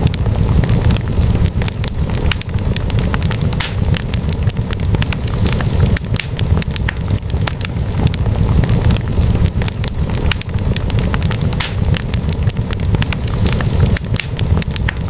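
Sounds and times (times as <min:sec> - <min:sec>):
logs crackling and popping in fire: 0:00.0 - 0:15.0
low fire rumble: 0:00.0 - 0:15.0.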